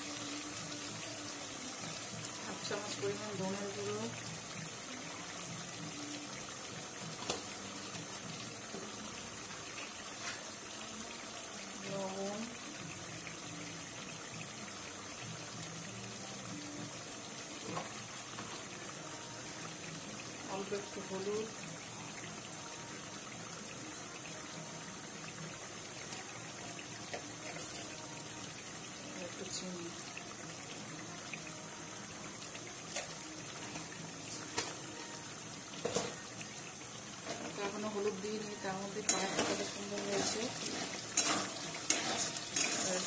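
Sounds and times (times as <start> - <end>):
food sizzling in oil: 0.0 - 43.0.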